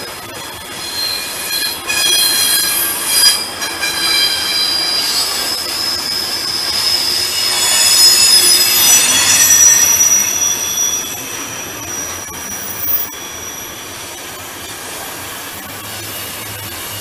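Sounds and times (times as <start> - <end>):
rumble of passing train wagons: 0.0 - 17.0
train wheels squealing on rails: 0.0 - 17.0.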